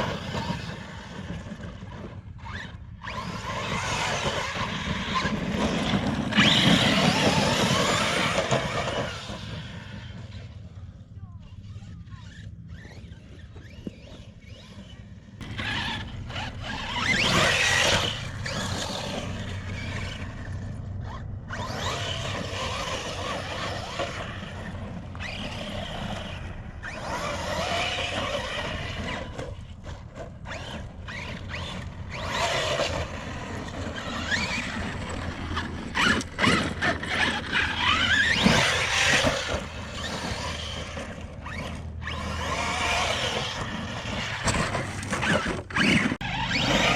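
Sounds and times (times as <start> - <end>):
tyres scrabbling on dirt: 0.0 - 10.2, 12.2 - 46.9
electric motor whine: 2.4 - 10.6, 11.7 - 46.9.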